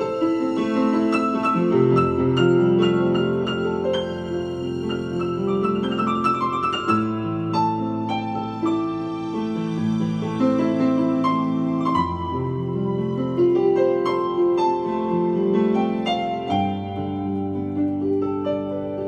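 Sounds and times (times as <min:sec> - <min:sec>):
digital keyboard piano melody: 0:00.0 - 0:19.0.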